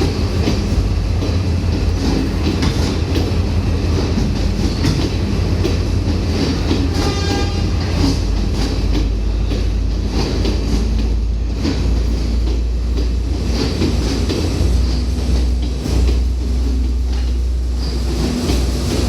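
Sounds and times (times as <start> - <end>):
clickety-clack of wheels over rail joints: 0.0 - 19.0
train rumbling at speed: 0.0 - 19.0.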